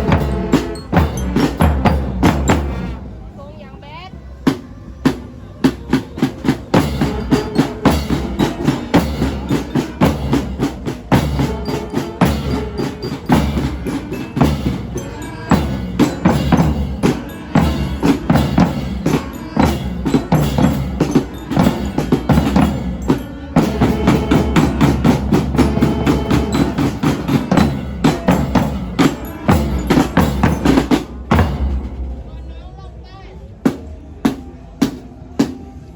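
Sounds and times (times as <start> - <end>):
wood-block strikes: 0.0 - 2.9, 4.5 - 32.4
music with busy percussion: 0.0 - 35.9.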